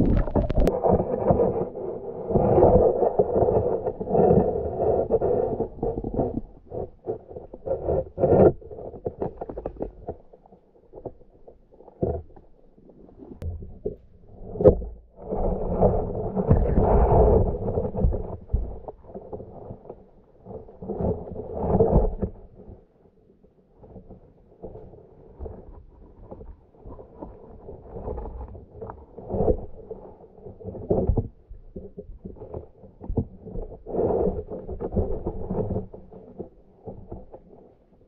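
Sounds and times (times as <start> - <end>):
underwater rumbles and knocks: 0.0 - 38.0.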